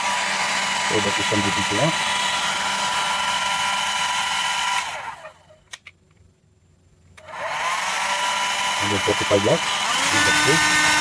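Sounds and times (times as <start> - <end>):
hair dryer blowing: 0.0 - 5.2, 7.2 - 11.0.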